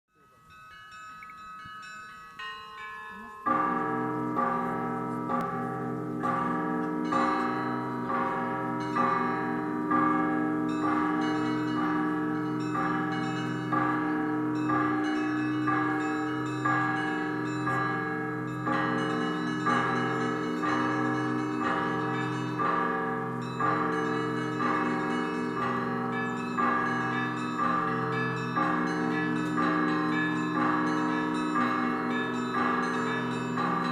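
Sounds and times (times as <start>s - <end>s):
church bells ringing: 0.1s - 33.9s.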